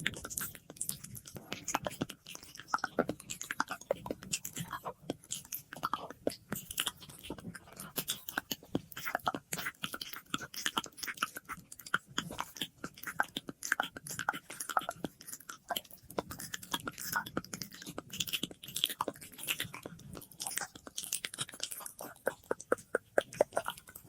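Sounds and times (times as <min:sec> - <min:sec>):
lip and tongue clicks and smacks: 0:00.0 - 0:24.0.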